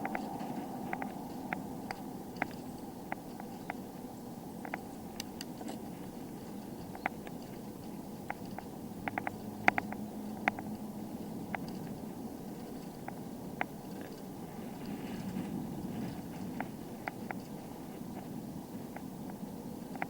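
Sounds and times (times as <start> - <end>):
bicycle clicks and rattles: 0.0 - 20.0
rumble of bicycle tyres and air: 0.0 - 20.0.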